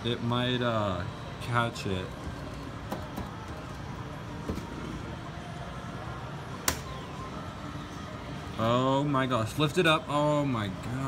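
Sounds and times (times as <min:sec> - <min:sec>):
arcade background din: 0:00.0 - 0:11.0.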